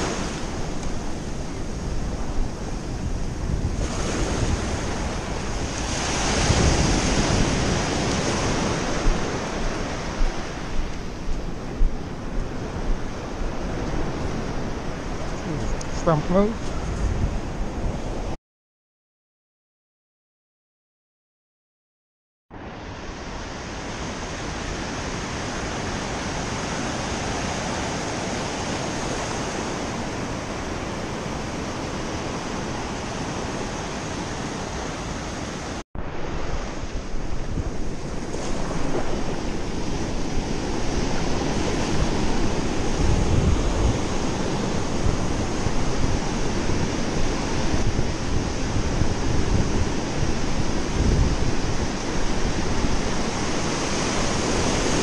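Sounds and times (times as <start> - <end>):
low wind rumble: 0.0 - 18.4, 22.6 - 55.0
surf washing up a beach: 0.0 - 18.4, 22.6 - 55.0
wind buffeting the microphone: 0.0 - 18.4, 22.8 - 55.0.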